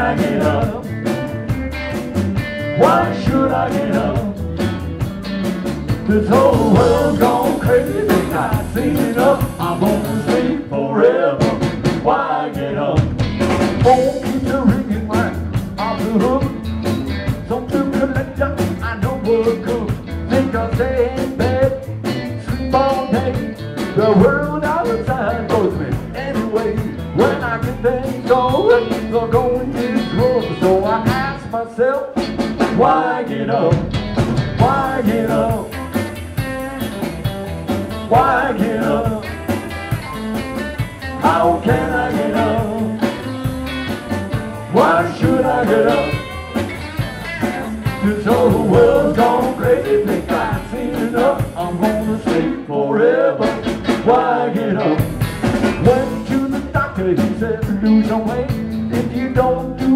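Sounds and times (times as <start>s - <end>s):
person singing: 0.0s - 1.0s, 2.8s - 4.4s, 6.0s - 13.1s, 13.8s - 16.6s, 17.4s - 33.9s, 34.6s - 35.9s, 38.0s - 39.6s, 41.1s - 43.8s, 44.6s - 46.7s, 47.4s - 55.1s, 55.8s - 59.9s
electric guitar: 0.0s - 10.7s, 12.8s - 52.7s, 53.4s - 59.9s
drums: 0.0s - 59.9s.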